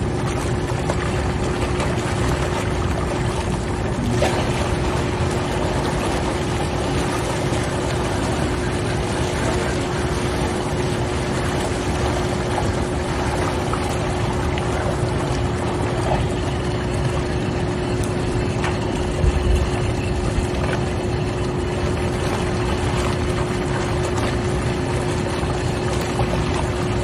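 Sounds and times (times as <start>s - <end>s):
bubbling churning water: 0.0s - 27.0s
pump hum: 0.0s - 27.0s.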